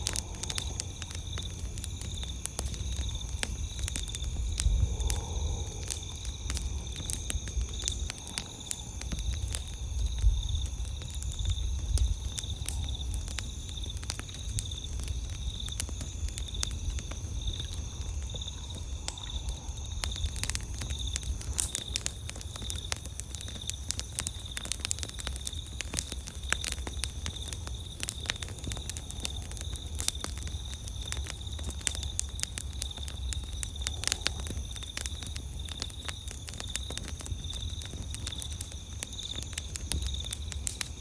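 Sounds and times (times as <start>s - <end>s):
campfire crackling and popping: 0.0s - 41.0s
night insects chirping: 0.0s - 41.0s.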